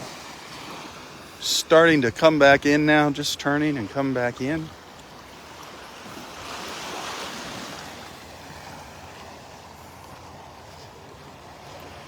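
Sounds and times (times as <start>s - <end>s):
small waves washing ashore: 0.0s - 12.0s.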